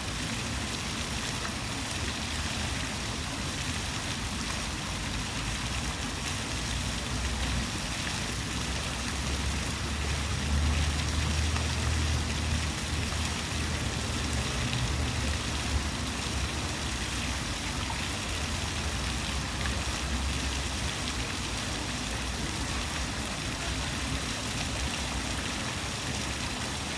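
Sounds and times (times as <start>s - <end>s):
running water rushing and trickling: 0.0s - 26.9s.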